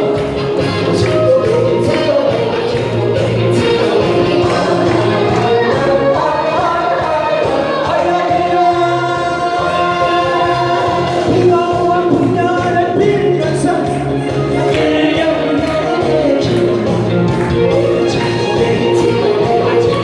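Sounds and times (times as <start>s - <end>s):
instrumental accompaniment: 0.0s - 20.0s
man and woman singing duet: 0.9s - 20.0s.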